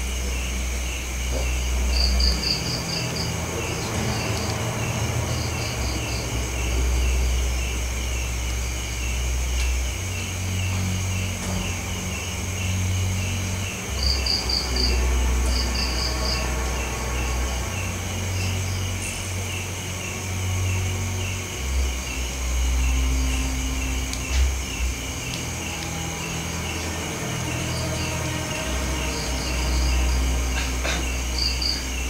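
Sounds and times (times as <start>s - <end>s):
crickets chirping: 0.0s - 32.0s
insect trills: 0.0s - 32.0s
steady low rumble: 0.0s - 32.0s.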